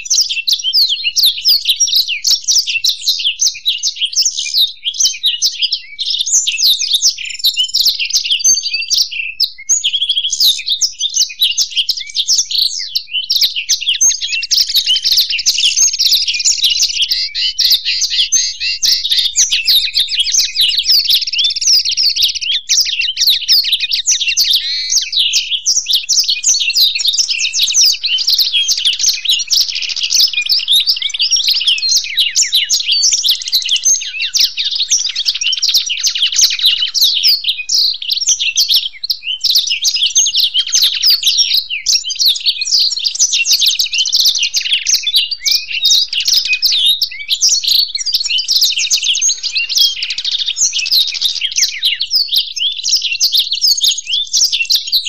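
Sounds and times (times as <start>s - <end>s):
birds twittering and trilling: 0.0s - 55.0s.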